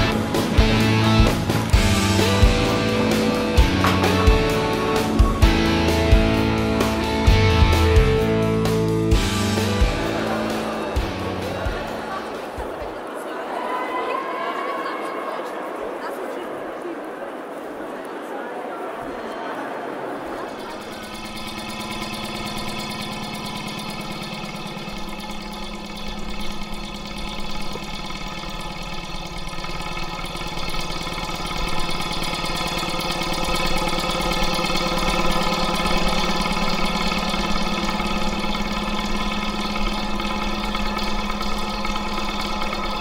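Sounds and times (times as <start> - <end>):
tram machine hum: 0.0 - 13.8, 14.8 - 43.0.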